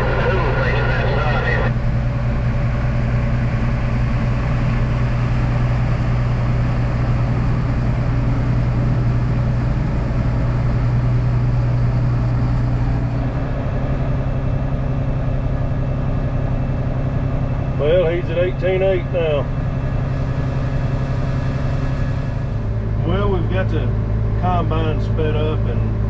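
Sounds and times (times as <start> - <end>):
diesel tractor engine running: 0.0 - 26.0.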